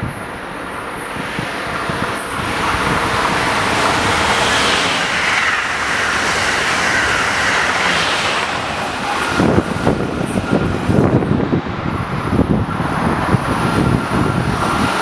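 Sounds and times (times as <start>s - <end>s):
high-speed train rushing past: 0.0s - 15.0s.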